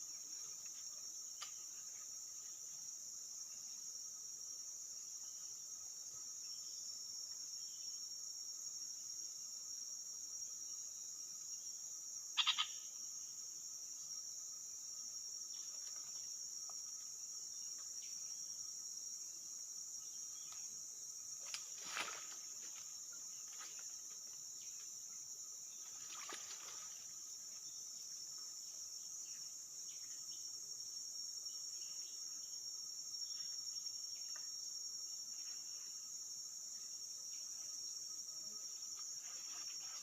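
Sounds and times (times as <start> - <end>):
insect chorus drone: 0.0 - 40.0.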